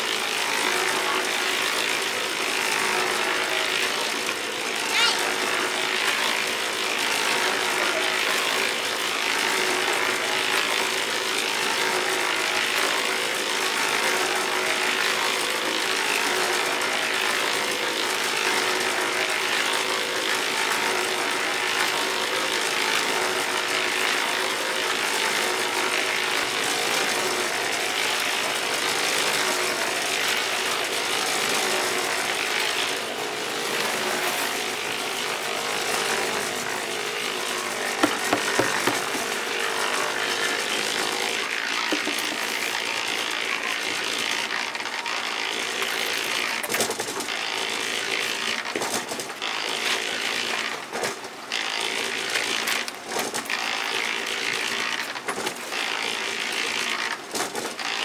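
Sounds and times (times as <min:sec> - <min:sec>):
machine rattling and grinding: 0:00.0 - 0:58.0.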